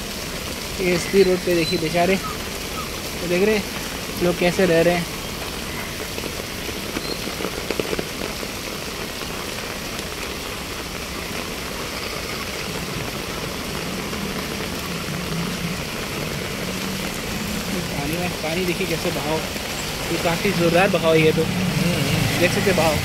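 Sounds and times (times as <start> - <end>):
heavy rain on street: 0.0 - 23.0.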